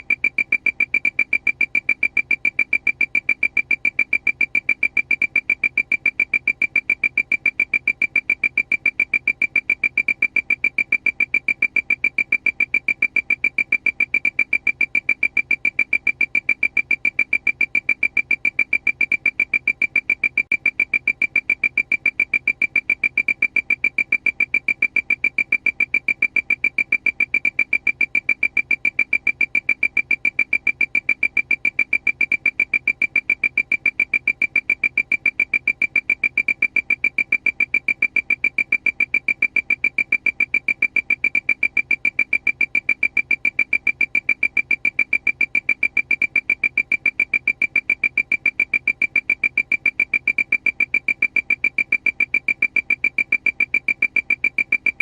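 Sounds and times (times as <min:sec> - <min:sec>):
rapid high electronic beeps: 0:00.0 - 0:55.0.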